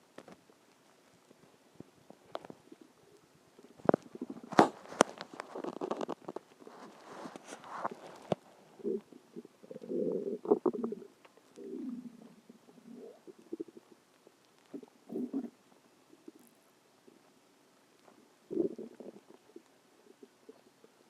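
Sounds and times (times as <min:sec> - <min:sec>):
stomach growling: 0:01.8 - 0:17.4, 0:18.0 - 0:21.0.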